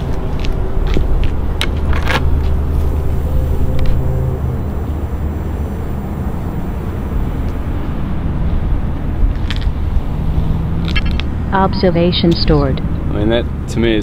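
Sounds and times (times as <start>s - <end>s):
motor vehicle engine rumbling: 0.0s - 14.0s.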